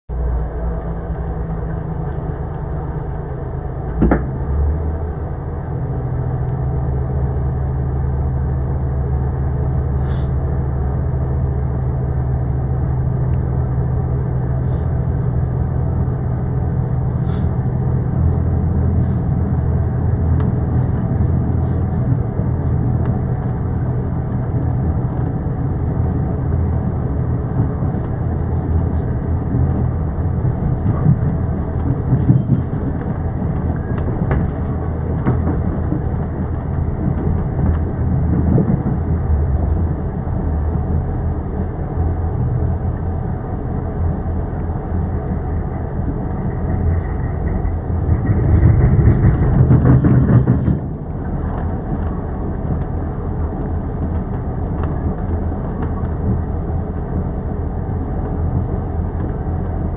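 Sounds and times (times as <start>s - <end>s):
train engine drone and rumble: 0.0s - 59.9s.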